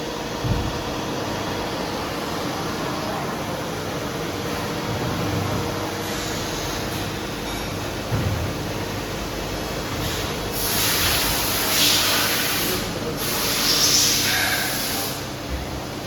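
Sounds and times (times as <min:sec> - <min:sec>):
machining center humming: 0:00.0 - 0:16.0.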